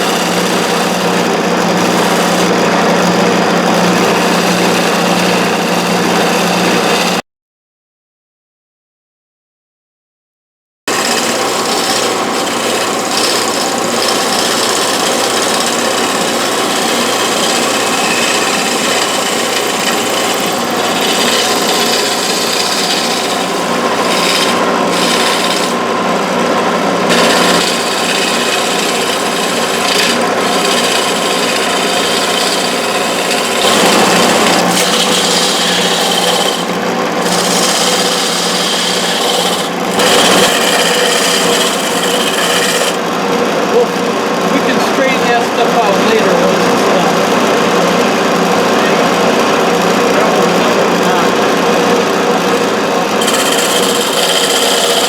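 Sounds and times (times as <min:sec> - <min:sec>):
lathe motor humming: 0:00.0 - 0:07.2, 0:10.9 - 0:55.0
tool scraping spinning wood: 0:00.0 - 0:07.2, 0:10.9 - 0:55.0.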